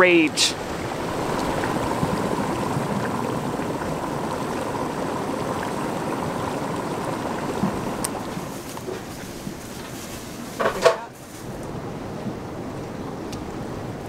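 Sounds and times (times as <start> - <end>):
hot spring bubbling and venting: 0.0 - 14.0.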